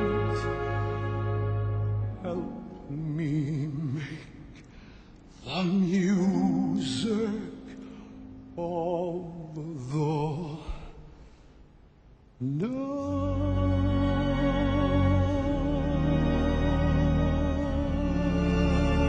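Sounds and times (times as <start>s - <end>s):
man singing with vibrato: 0.0s - 1.3s, 2.1s - 4.6s, 5.4s - 11.1s, 12.4s - 19.0s.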